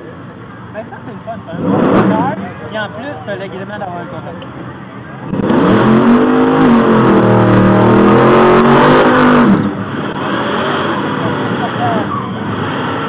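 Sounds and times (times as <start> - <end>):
race car engine revving: 1.2 - 3.0, 4.2 - 13.0.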